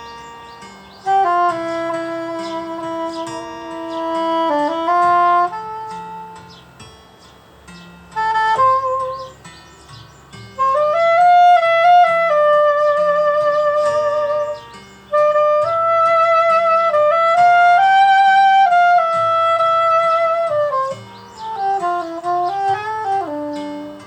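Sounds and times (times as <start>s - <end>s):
saxophone melody: 0.0s - 6.9s, 7.7s - 24.0s.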